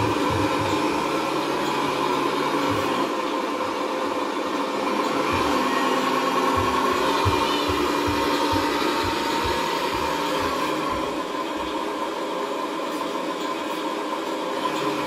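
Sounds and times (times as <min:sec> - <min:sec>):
toy truck motor whirring: 0:00.0 - 0:15.0.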